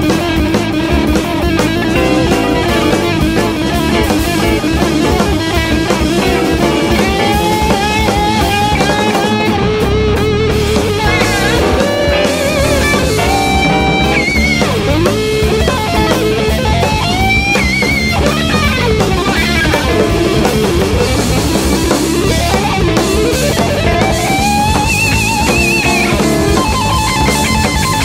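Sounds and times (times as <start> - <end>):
busy drum kit: 0.0 - 28.0
electric guitar lead lines: 0.0 - 28.0.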